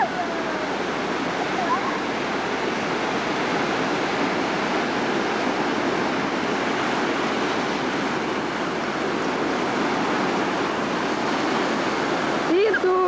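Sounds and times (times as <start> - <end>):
ocean surf washing on shore: 0.0 - 13.0.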